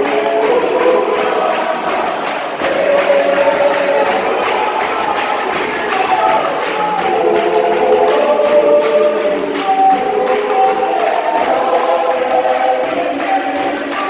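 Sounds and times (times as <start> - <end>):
gospel choir singing: 0.0 - 14.0
rhythmic beat: 0.0 - 14.0.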